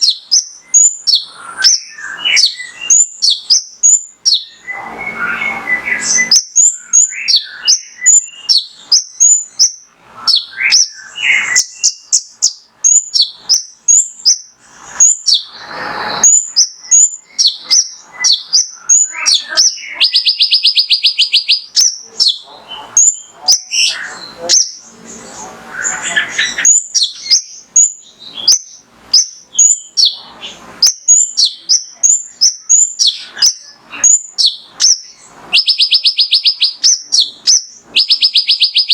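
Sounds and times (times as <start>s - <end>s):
bird buzzy trill: 0.0s - 38.9s
bird chirping song: 0.0s - 38.9s
bird rasping calls: 0.0s - 38.9s.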